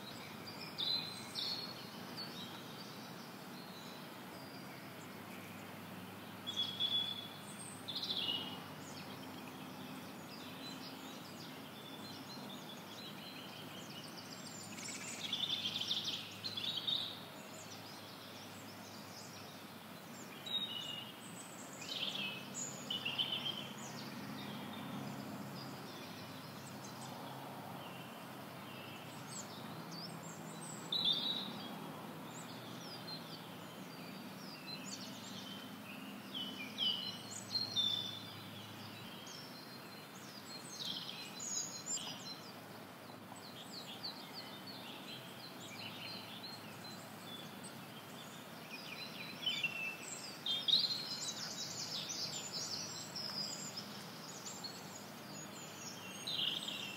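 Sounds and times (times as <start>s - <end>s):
faint outdoor background noise: 0.0s - 56.9s
songbirds singing and chirping: 0.0s - 56.9s.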